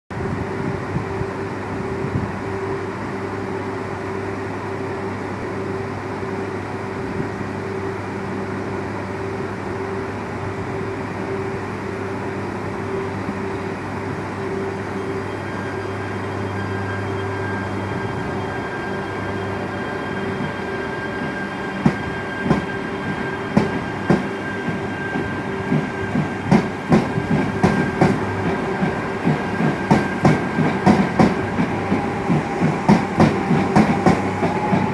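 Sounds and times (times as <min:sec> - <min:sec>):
high train whine: 0:00.1 - 0:34.9
train running equipment hum: 0:00.1 - 0:34.9.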